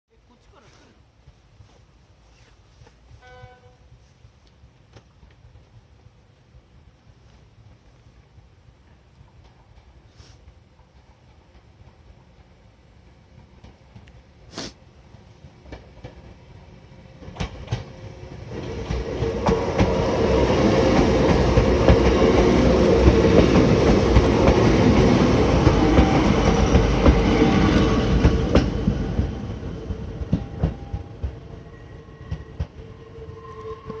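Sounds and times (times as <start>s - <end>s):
electric train rumbling past: 3.0s - 34.0s.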